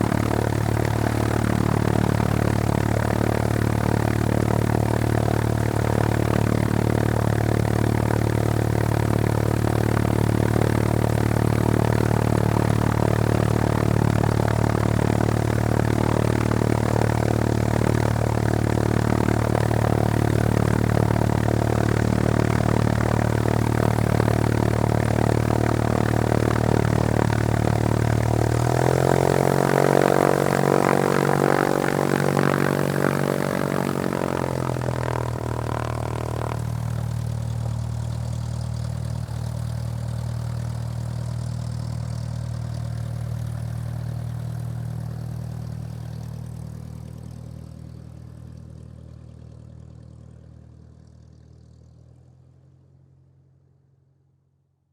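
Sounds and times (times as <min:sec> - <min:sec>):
propeller aircraft engine running: 0:00.0 - 0:53.2.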